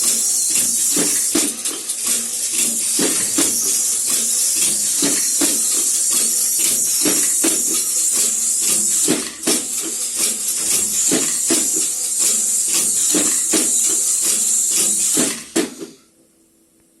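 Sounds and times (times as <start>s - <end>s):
machine clacking: 0.0s - 16.0s
steady high hiss: 0.0s - 16.1s.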